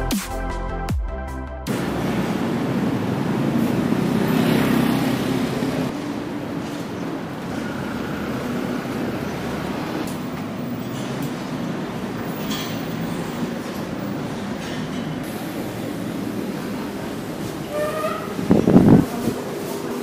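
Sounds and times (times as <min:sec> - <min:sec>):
moving vehicle rumbling: 0:01.7 - 0:20.0.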